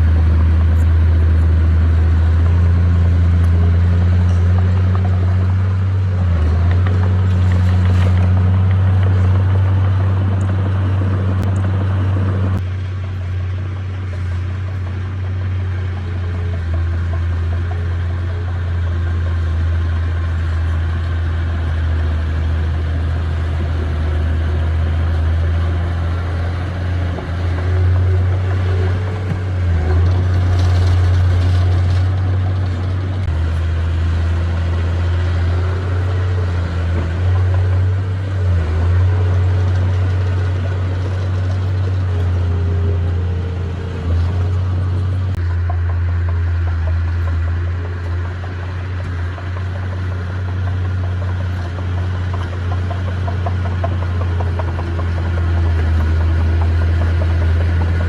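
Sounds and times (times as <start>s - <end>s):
diesel engine deep hum: 0.0s - 58.0s.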